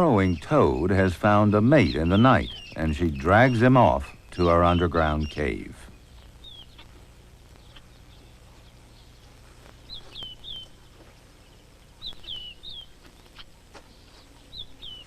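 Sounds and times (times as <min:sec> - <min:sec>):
bird chirping: 0:00.0 - 0:15.0
faint background hum: 0:00.0 - 0:15.0.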